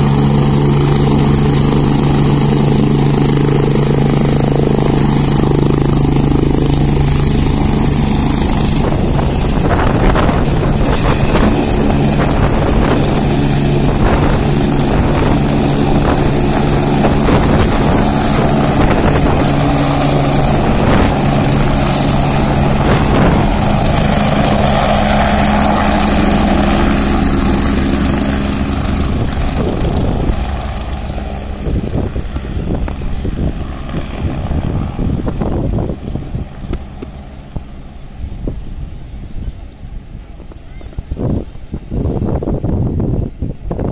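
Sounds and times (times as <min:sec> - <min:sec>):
helicopter rotor beat: 0:00.0 - 0:43.9
helicopter turbine whine: 0:00.0 - 0:43.9.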